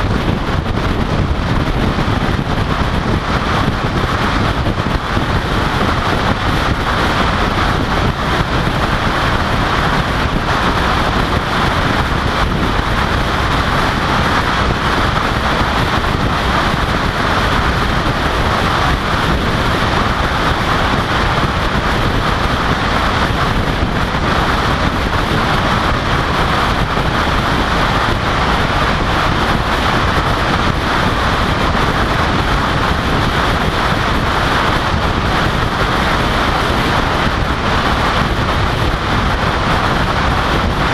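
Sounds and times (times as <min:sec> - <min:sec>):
vehicle road noise at speed: 0:00.0 - 0:40.9
wind buffeting microphone: 0:00.0 - 0:40.9.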